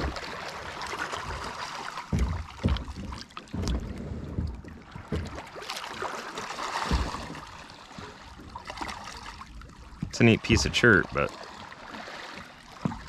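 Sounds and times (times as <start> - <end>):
water sloshing around kayak: 0.0 - 13.0.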